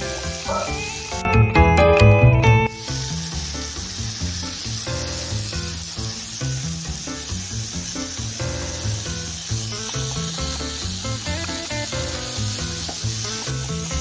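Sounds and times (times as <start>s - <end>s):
food sizzling in a frying pan: 0.0s - 1.4s, 2.6s - 14.0s
background music: 0.0s - 14.0s.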